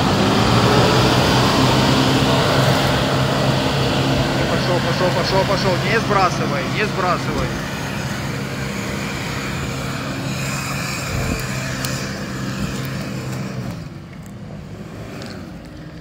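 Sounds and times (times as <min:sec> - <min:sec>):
engine at high revs: 0:00.0 - 0:16.0.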